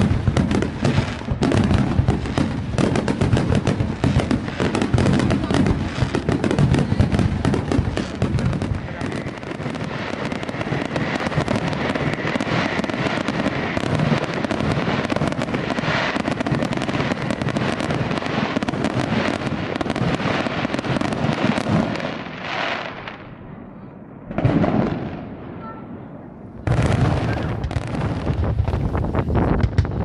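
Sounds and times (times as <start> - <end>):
fireworks cracking and popping: 0.0 - 23.5, 24.2 - 30.0.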